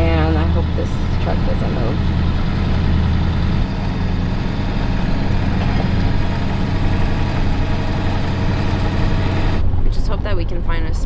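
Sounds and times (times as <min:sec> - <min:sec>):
engine running at low revs: 0:00.0 - 0:11.0
road noise: 0:00.0 - 0:11.0.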